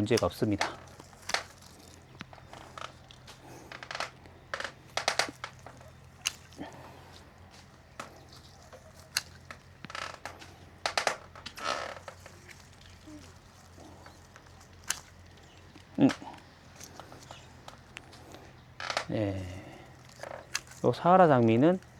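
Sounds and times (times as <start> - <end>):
leaves rustling and crunching: 0.0 - 21.9
pruning shears snipping: 0.0 - 21.9.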